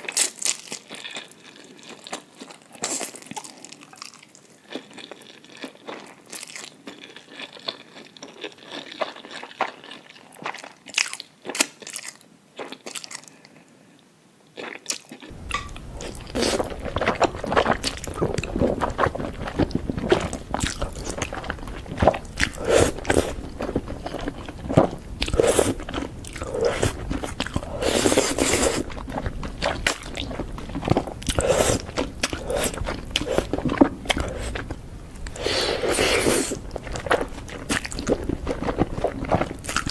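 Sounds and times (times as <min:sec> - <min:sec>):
person chewing and crunching food: 0:00.0 - 0:13.7, 0:14.6 - 0:39.9.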